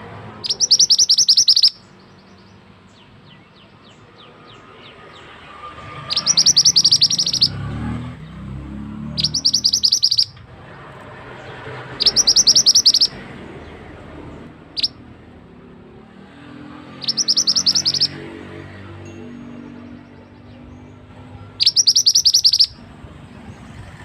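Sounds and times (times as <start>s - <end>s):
bird singing rapid high notes: 0.3s - 10.5s, 11.3s - 13.8s, 14.6s - 15.2s, 16.6s - 23.8s.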